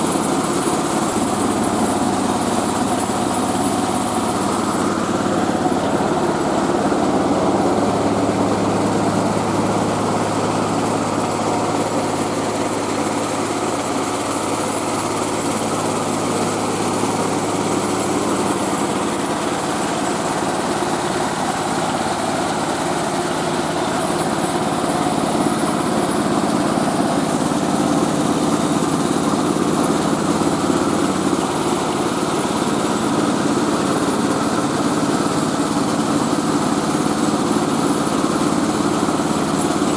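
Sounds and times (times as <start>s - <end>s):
rice milling machine droning: 0.0s - 39.9s.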